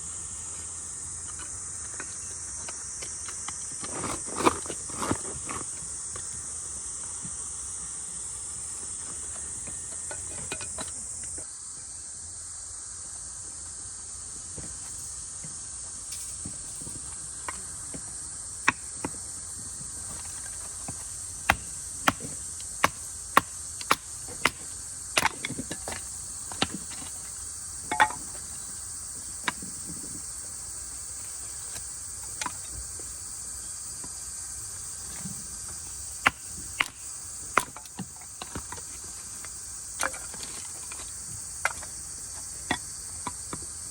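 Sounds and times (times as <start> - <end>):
insects chirring: 0.0 - 43.9.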